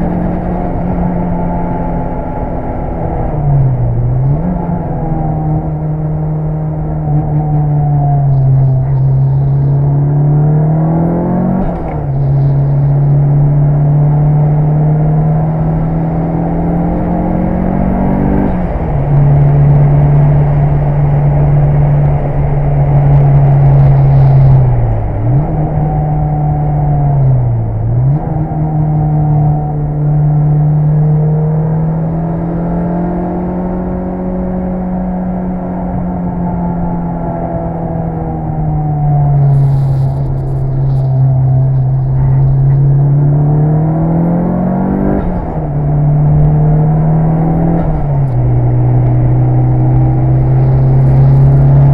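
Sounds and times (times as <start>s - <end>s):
car engine revving hard: 0.0s - 51.9s.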